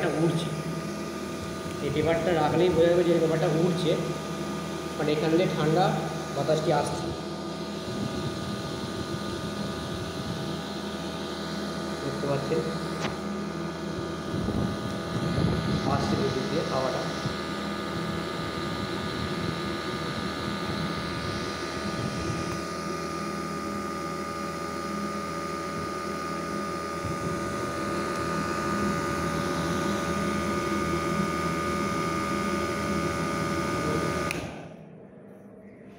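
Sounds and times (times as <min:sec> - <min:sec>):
small motor whirring hum: 0:00.0 - 0:34.8.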